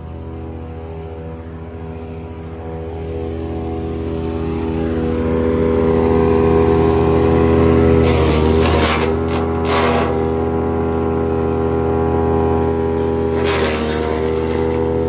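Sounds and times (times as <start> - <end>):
wood chipper engine running: 0.0 - 15.0
branches crackling in chipper: 1.7 - 15.0.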